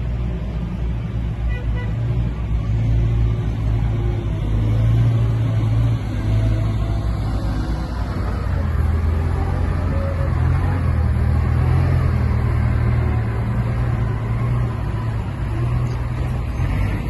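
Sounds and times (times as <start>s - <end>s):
heavy machinery engine droning: 0.0s - 17.0s.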